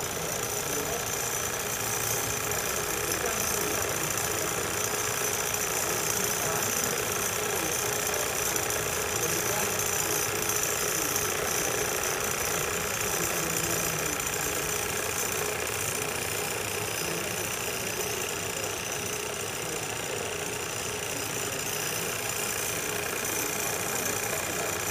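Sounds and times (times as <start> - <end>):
steam hissing: 0.0 - 24.9
toy steam engines whirring: 0.0 - 24.9.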